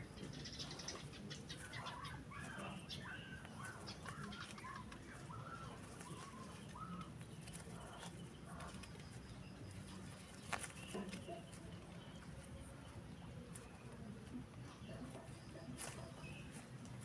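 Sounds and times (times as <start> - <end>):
faint bird chirps: 0.0 - 17.0
low background hum: 0.0 - 17.0.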